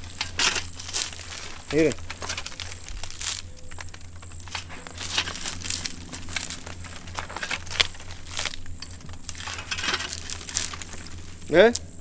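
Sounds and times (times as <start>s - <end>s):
metal scraping against bark: 0.0s - 12.0s
steady low hum: 0.0s - 12.0s.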